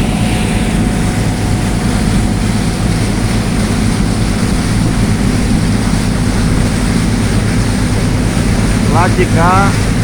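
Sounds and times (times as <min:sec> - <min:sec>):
boat engine humming: 0:00.0 - 0:10.0
water noise: 0:00.0 - 0:10.0.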